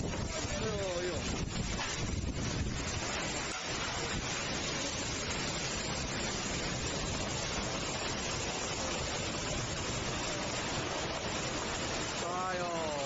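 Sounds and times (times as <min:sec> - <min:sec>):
wind buffeting microphone: 0:00.0 - 0:12.2
strong wind through trees: 0:00.0 - 0:13.0.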